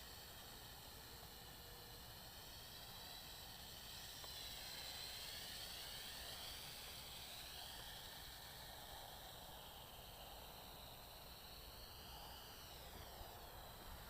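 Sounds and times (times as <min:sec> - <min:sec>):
high whine of drone rotors: 0:00.0 - 0:14.0
steady hiss: 0:00.0 - 0:14.0.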